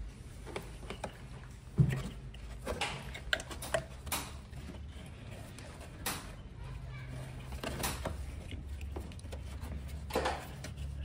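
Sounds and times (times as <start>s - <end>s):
hand tools clicking and knocking: 0.6s - 6.6s, 7.3s - 10.9s.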